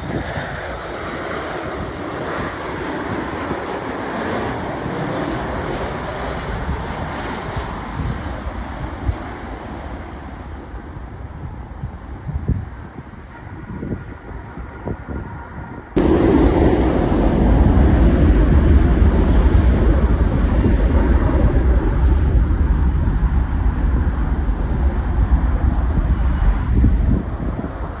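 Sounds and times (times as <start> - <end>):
aircraft engine roar: 0.0 - 28.0.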